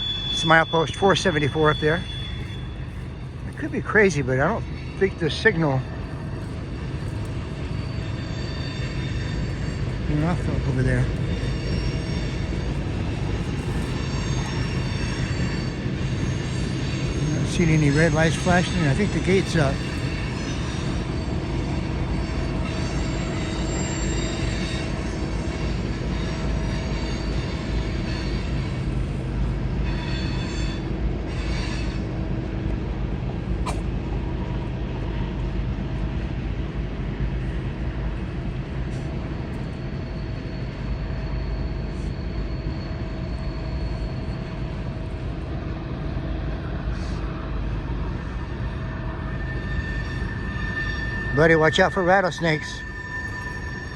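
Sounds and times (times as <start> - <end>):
diesel locomotive engine drone: 0.0 - 53.9
rail rumble: 0.0 - 53.9.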